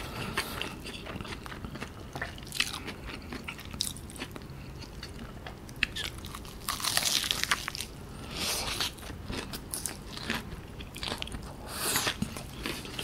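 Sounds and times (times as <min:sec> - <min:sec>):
chewing with wet mouth sounds: 0:00.0 - 0:13.0.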